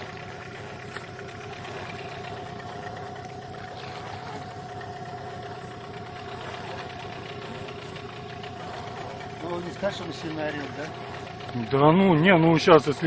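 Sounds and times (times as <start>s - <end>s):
outboard boat motor droning: 0.0s - 13.0s.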